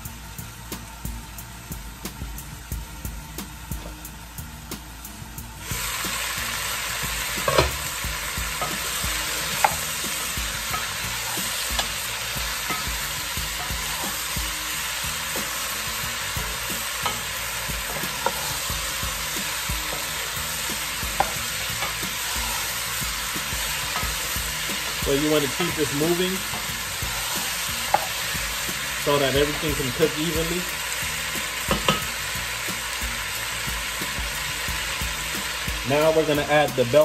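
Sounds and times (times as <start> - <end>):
potatoes sizzling in pot: 0.0 - 37.0.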